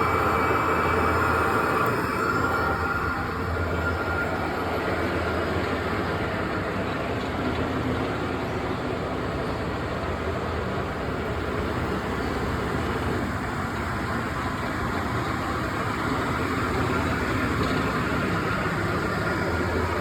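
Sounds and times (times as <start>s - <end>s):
mechanical rumble with hiss: 0.0s - 20.0s.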